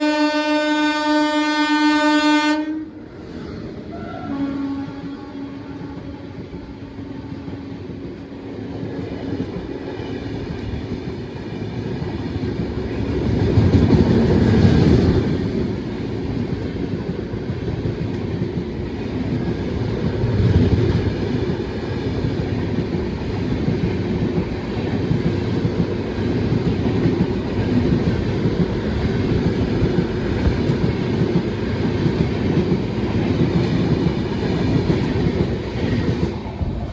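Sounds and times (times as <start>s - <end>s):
train rumbling and rattling: 0.0s - 36.9s.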